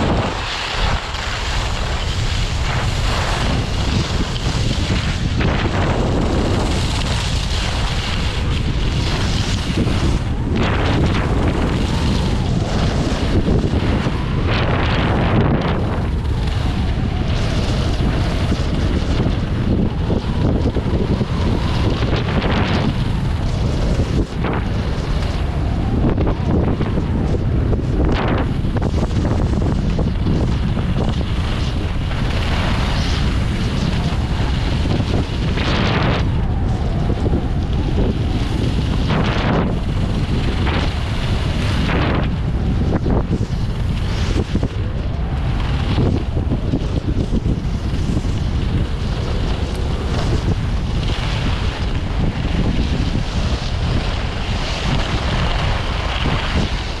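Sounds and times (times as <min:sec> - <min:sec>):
skis scraping on snow: 0:00.0 - 0:57.0
wind buffeting microphone: 0:00.0 - 0:57.0.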